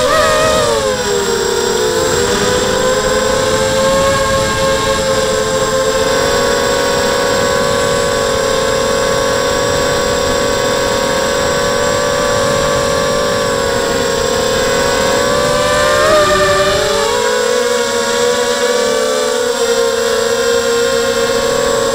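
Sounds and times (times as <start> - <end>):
drone motors whining: 0.0 - 21.9.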